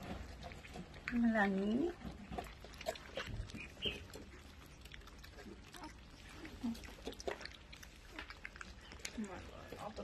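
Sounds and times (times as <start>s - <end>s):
kibble crunching: 0.0s - 10.0s
low puppy noises: 0.1s - 9.7s.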